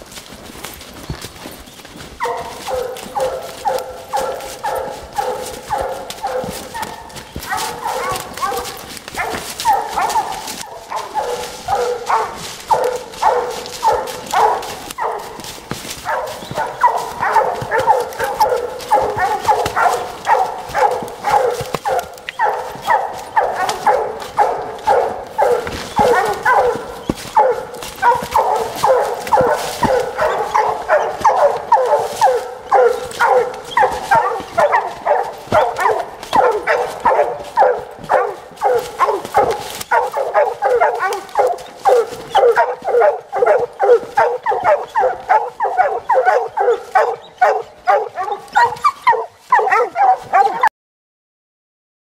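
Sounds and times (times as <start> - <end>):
hounds barking: 0.0 - 50.7.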